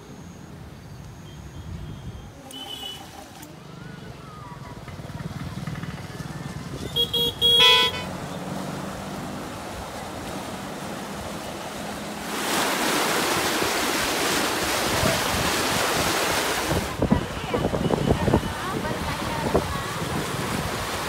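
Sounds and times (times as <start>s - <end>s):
floodwater rushing: 2.4s - 21.0s.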